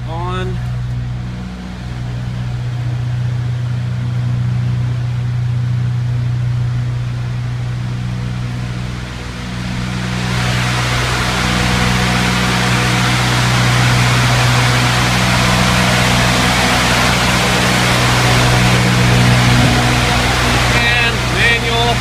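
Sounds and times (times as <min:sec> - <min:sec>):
diesel generator humming: 0:00.0 - 0:22.0
heater blower air rush: 0:00.0 - 0:22.0.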